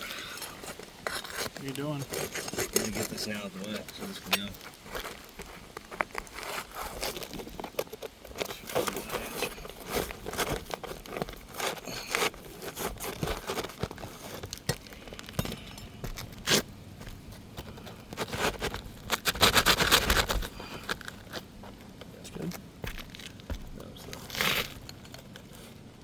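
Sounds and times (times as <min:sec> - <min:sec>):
shingles scraping and crackling: 0:00.0 - 0:26.0.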